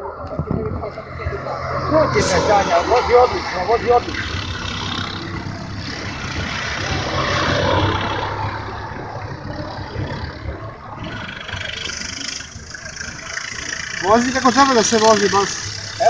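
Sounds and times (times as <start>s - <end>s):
kart engines passing: 0.0s - 16.0s.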